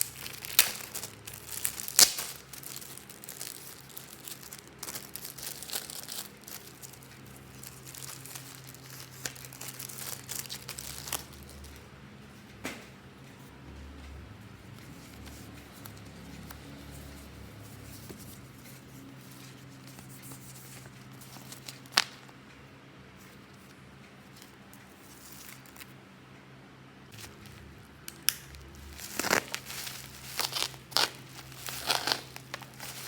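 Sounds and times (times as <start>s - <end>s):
handling packaging and plastic: 0.0s - 22.4s, 27.2s - 33.0s.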